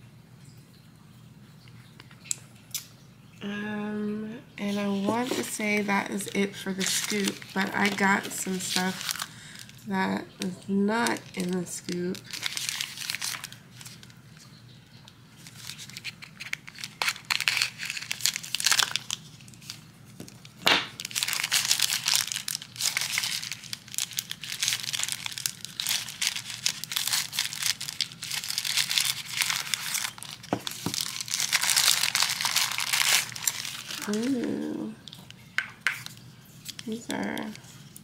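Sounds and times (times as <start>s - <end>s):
plastic packaging crinkling: 4.6s - 38.0s.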